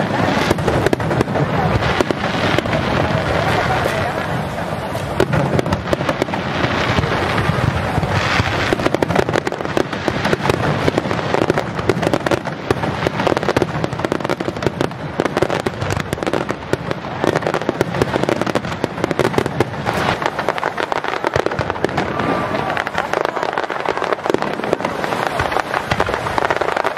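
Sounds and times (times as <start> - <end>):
fireworks bursting and crackling: 0.0 - 26.9.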